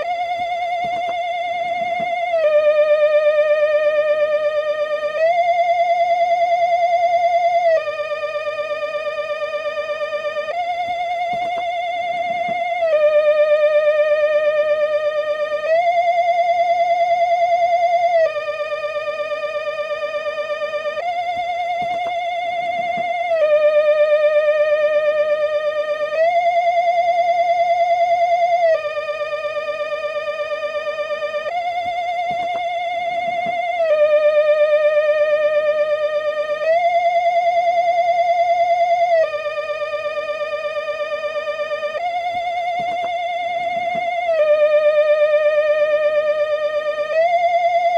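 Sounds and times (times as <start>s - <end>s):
theremin-style electronic tone: 0.0s - 47.9s.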